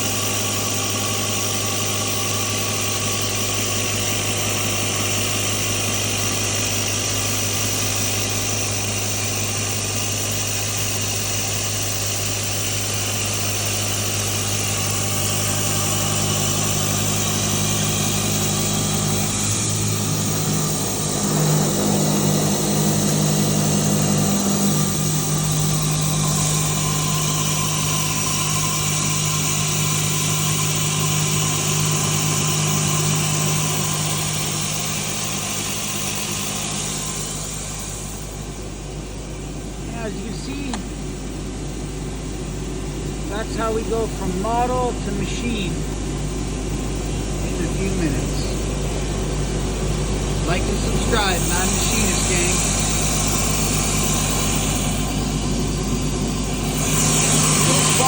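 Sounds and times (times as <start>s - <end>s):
metal cutting noise: 0.0s - 41.2s, 46.8s - 58.0s
milling machine spindle hum: 0.0s - 58.0s.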